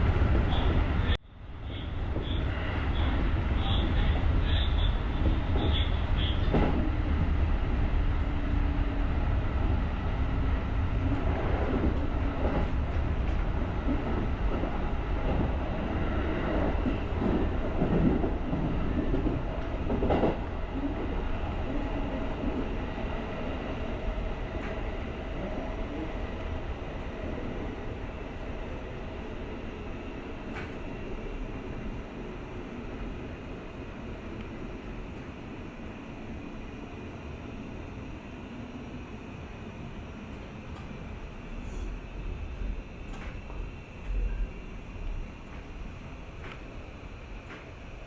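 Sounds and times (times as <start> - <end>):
electric train running rumble: 0.0 - 48.0.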